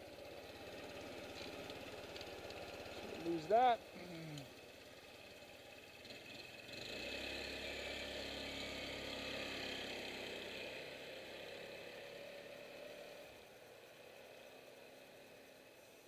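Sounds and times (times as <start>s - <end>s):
scooter engine pulling away: 0.0s - 16.0s.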